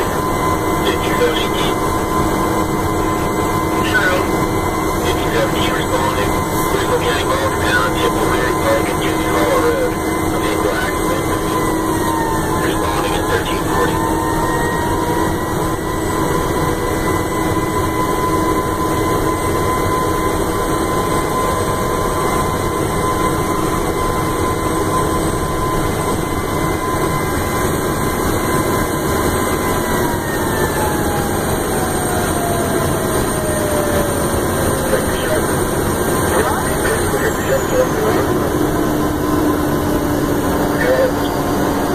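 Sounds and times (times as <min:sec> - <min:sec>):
faint whine: 0:00.0 - 0:23.3, 0:26.4 - 0:41.9.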